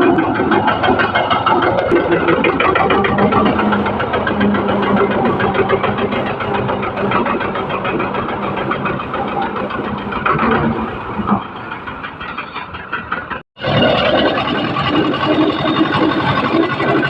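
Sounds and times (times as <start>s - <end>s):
engine idling with knocking: 0.0s - 17.0s.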